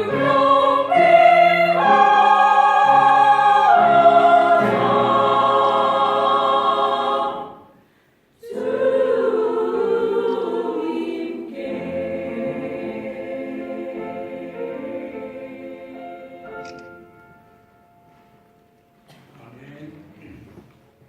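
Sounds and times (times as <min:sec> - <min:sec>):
vocal ensemble singing harmony: 0:00.0 - 0:17.2.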